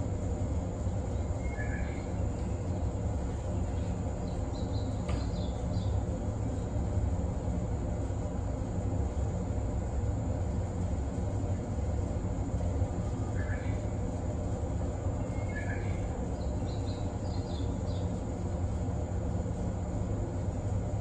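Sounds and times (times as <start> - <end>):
electric train humming: 0.0 - 21.0.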